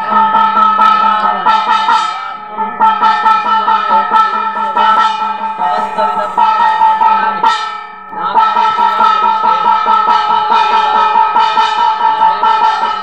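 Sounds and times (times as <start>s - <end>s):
hand bell ringing rapidly: 0.0s - 13.0s.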